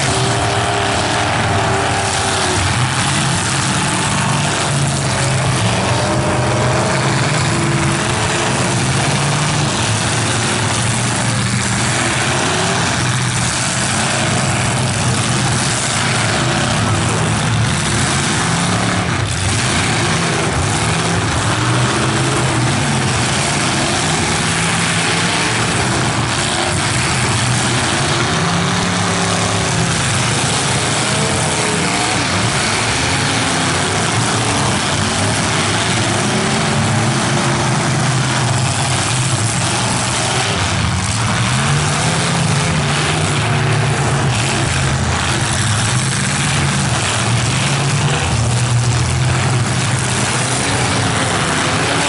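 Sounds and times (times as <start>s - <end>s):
car engines revving: 0.0s - 52.0s
tyres spinning in dirt: 0.0s - 52.0s.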